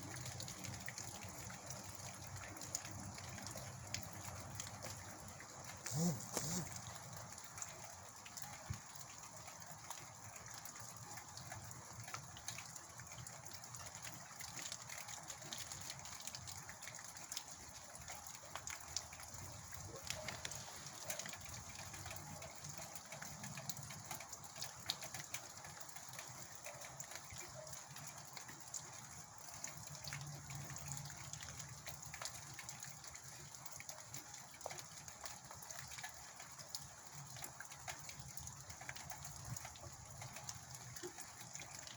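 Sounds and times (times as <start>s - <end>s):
light taps of raindrops: 0.0s - 41.9s.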